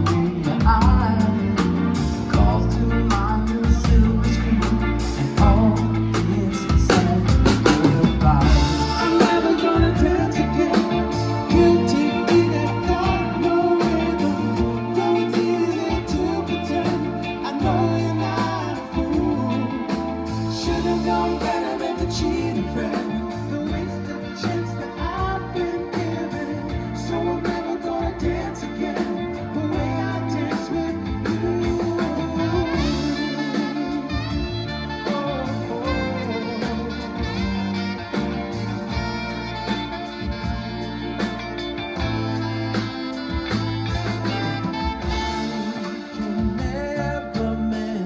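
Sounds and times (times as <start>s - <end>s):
steady drum beat: 0.0s - 47.9s
bass line: 0.0s - 48.0s
electric guitar: 0.0s - 48.0s
live rock band playing: 0.0s - 48.0s.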